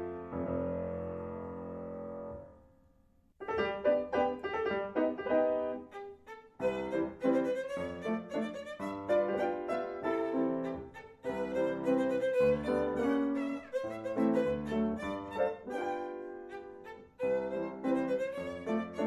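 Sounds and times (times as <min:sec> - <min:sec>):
lively violin and piano: 0:00.0 - 0:02.0, 0:03.4 - 0:19.0.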